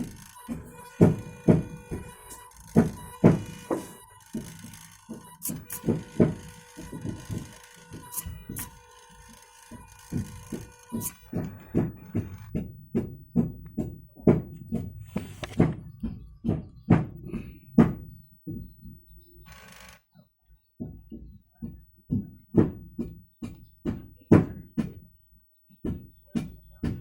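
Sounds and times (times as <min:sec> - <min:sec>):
regular knocks or thuds: 0:00.0 - 0:20.0, 0:20.8 - 0:27.0.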